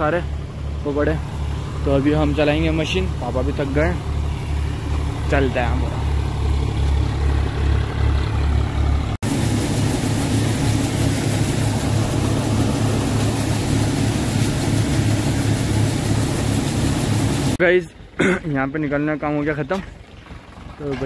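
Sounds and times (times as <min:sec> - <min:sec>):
thresher machine hum: 0:00.0 - 0:17.6
tractor engine beat: 0:00.0 - 0:17.7.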